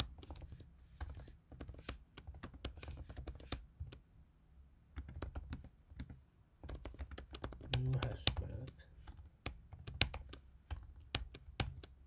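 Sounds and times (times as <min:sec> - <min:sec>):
computer keyboard typing: 0:00.0 - 0:04.0, 0:05.0 - 0:12.0.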